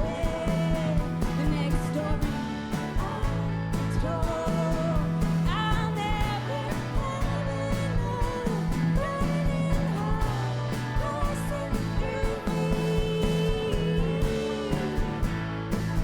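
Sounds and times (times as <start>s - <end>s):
person singing: 0.0s - 15.4s
live rock band playing: 0.0s - 16.0s.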